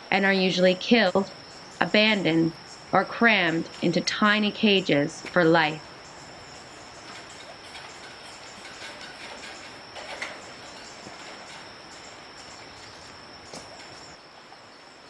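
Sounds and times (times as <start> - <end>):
high-pitched insect drone: 0.7 - 14.3.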